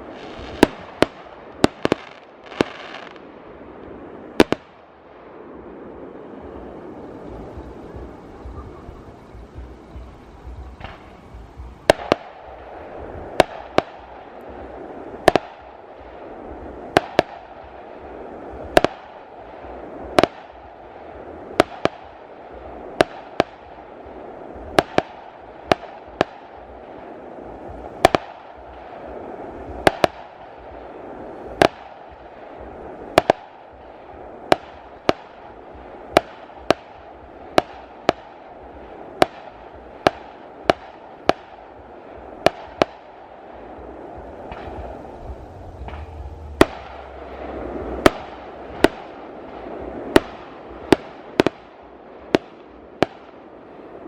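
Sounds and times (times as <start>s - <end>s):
crackling hiss: 0.0s - 54.0s
fireworks bursting: 0.0s - 54.0s.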